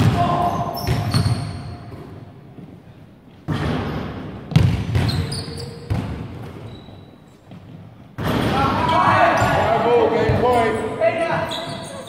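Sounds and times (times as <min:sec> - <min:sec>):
basketball bouncing in echoing hall: 0:00.0 - 0:12.0.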